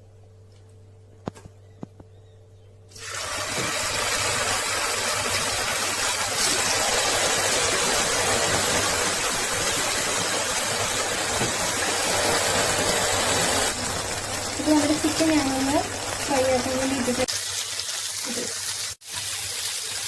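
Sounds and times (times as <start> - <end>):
chicken sizzling in hot oil: 2.9 - 20.0.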